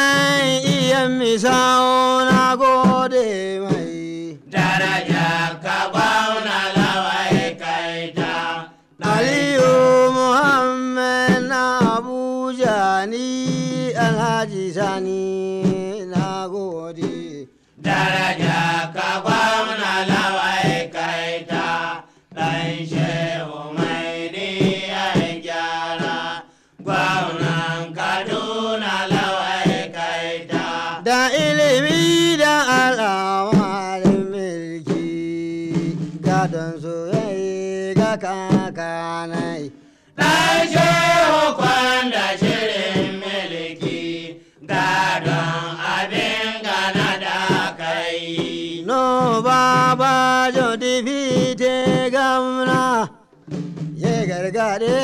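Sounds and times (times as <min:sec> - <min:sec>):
person singing chant-like phrases: 0:00.0 - 0:53.2.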